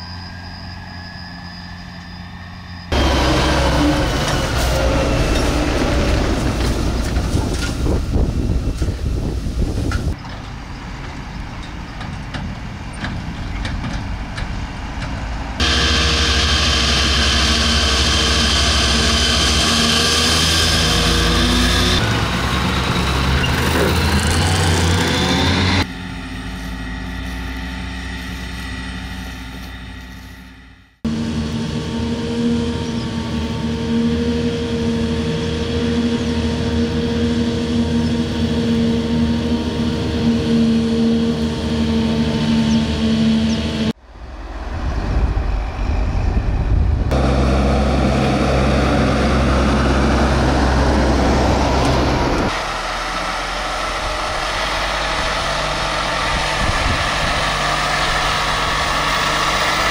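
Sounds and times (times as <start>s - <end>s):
steady engine hum: 0.0s - 59.9s
tractor driving: 0.0s - 59.9s
forage harvester running loud: 2.9s - 59.9s.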